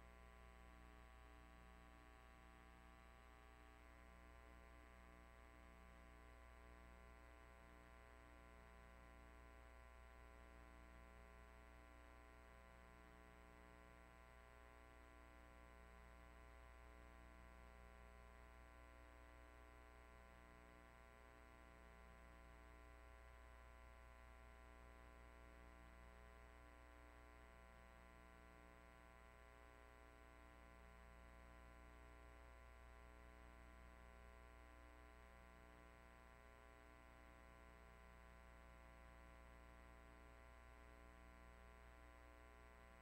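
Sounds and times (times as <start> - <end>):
faint electrical hum: 0.0 - 43.0.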